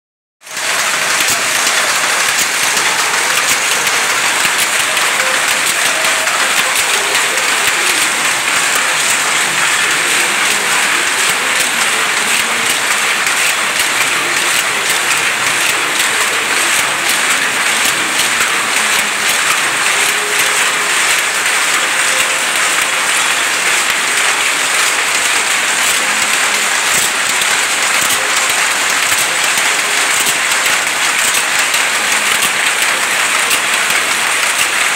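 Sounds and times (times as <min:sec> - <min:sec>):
power looms clattering: 0:00.4 - 0:34.9.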